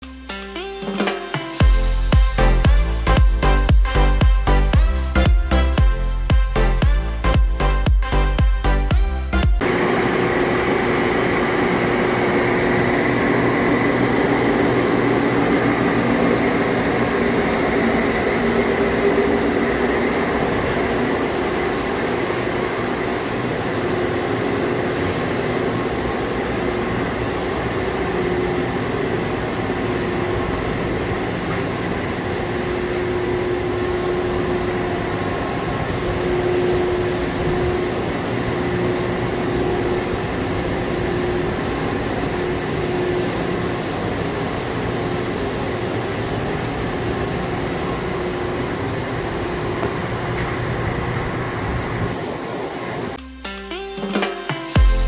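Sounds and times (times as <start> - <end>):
machinery humming: 0.3 - 53.2.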